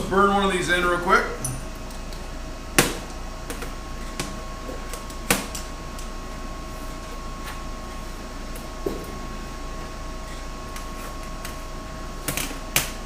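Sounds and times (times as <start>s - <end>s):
steady hum with faint whine: 0.0s - 13.0s.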